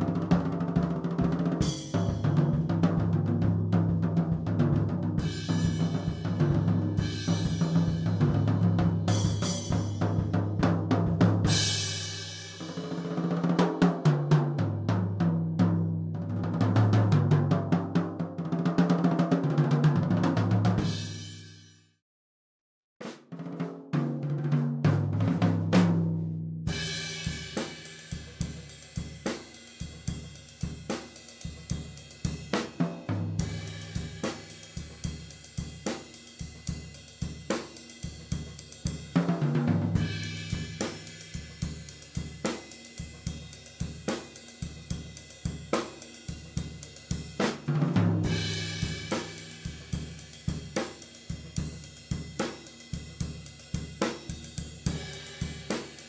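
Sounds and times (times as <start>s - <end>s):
drum kit playing a beat: 0.0s - 21.4s, 23.0s - 56.0s.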